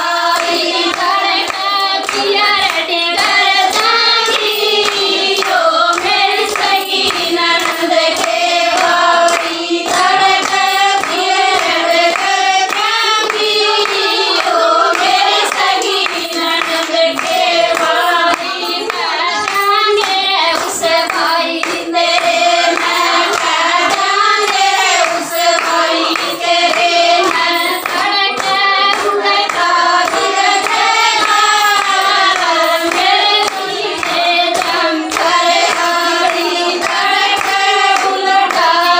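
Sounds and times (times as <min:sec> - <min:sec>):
hand-clapping: 0:00.0 - 0:38.9
women singing folk song: 0:00.0 - 0:38.9.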